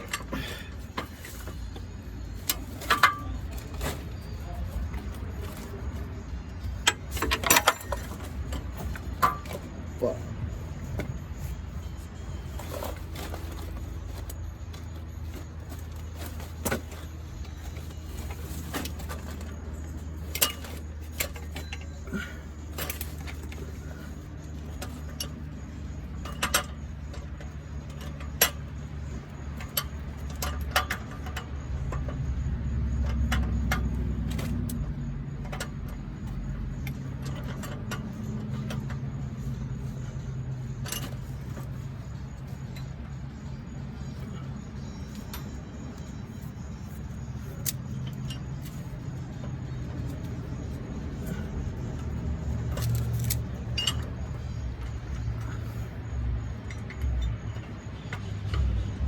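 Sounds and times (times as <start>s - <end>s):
metallic clinks of tools: 0.0s - 58.8s
low engine-like hum: 0.0s - 59.0s.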